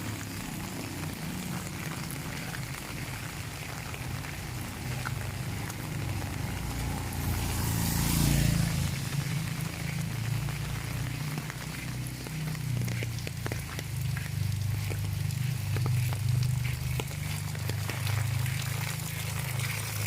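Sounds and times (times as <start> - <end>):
steady rain falling: 0.0 - 20.0
vehicle passing on wet road: 0.0 - 20.0.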